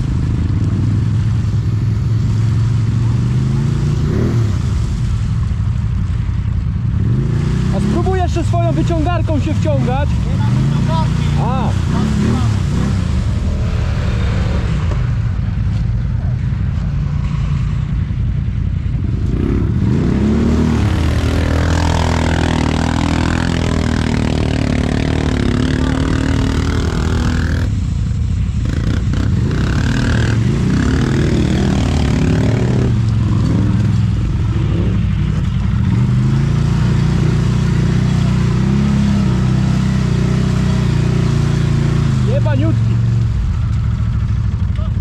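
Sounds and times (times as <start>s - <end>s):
vehicle engine revving: 6.9s - 18.2s, 18.9s - 44.9s.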